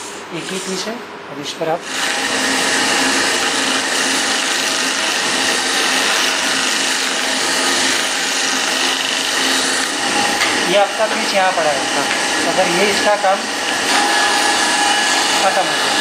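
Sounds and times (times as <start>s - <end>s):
disc sander grinding wood: 1.8s - 16.0s.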